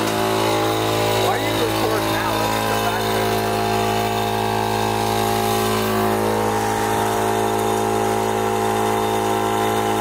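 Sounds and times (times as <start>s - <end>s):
motor droning hum: 0.0s - 10.0s.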